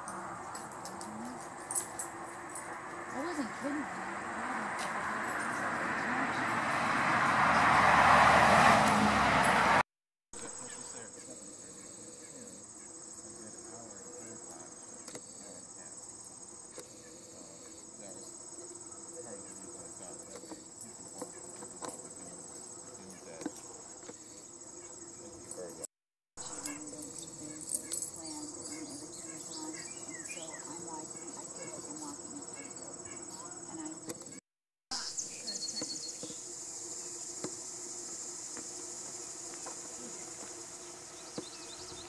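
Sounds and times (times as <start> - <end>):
insects trilling: 0.0 - 9.5, 10.4 - 42.0.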